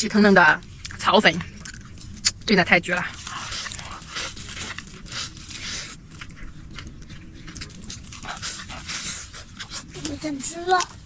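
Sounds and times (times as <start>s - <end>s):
slurping and chewing: 0.7s - 11.0s.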